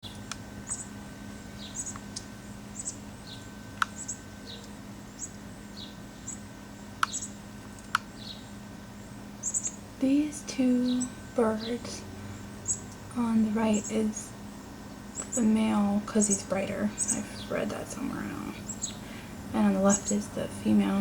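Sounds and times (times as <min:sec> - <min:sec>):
songbird high chirps: 0:00.0 - 0:00.9, 0:01.5 - 0:06.4, 0:07.0 - 0:07.4, 0:08.2 - 0:14.2, 0:14.9 - 0:21.0
steady low hum: 0:00.0 - 0:21.0.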